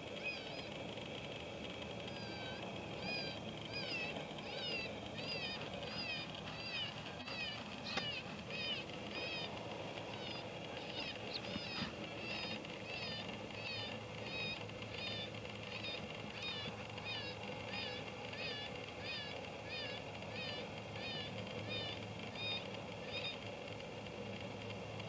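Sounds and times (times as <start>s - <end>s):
electronic animal distress call: 2.0s - 23.4s.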